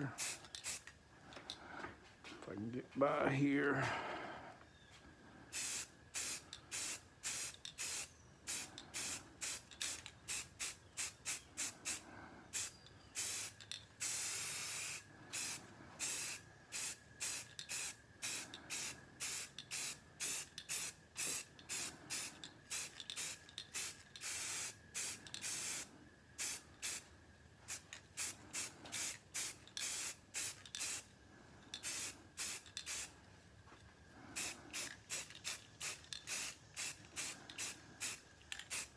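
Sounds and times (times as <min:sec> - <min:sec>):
spray paint can hissing: 0:00.2 - 0:00.9, 0:05.5 - 0:27.1, 0:27.7 - 0:31.1, 0:31.7 - 0:33.2, 0:34.4 - 0:38.9.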